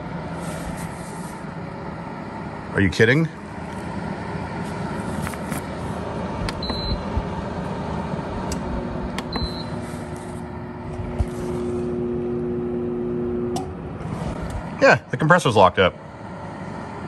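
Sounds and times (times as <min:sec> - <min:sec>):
compressor low buzz: 0:00.0 - 0:17.0
dehumidifier running noise: 0:00.0 - 0:17.0.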